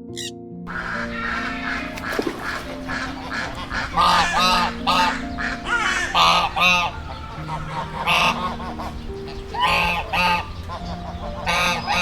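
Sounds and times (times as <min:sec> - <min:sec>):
geese honking: 0:00.1 - 0:12.0.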